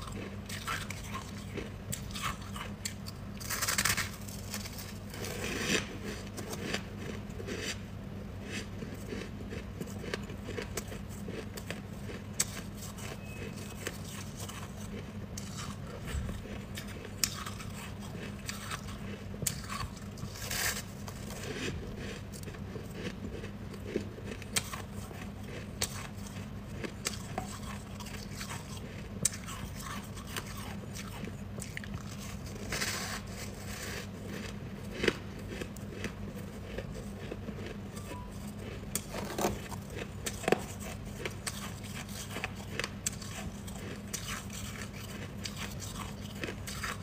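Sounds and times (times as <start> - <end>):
ice being chewed: 0.0 - 47.0
steady low hum: 0.0 - 47.0.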